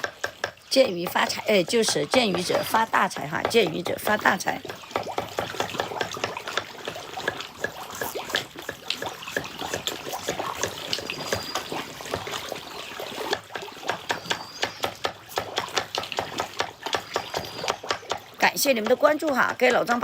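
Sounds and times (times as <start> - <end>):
fish splashing at surface: 0.0 - 20.0.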